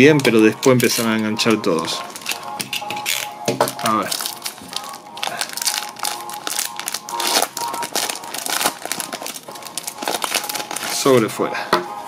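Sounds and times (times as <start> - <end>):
foil pack crinkling: 0.0 - 11.3.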